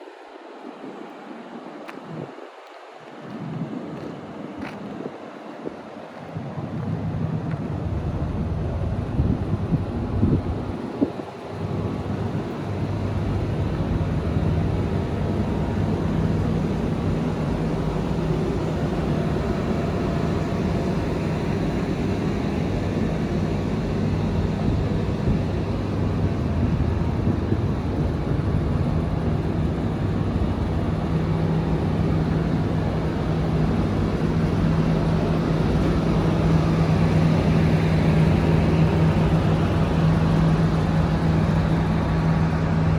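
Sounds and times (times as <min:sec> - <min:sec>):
fan noise rushing: 0:00.0 - 0:42.9
air conditioner low hum: 0:06.6 - 0:42.9.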